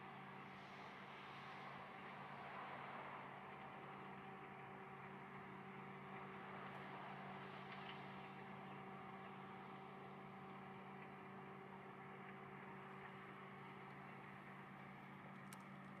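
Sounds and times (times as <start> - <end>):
faint machinery hum: 0.0 - 16.0.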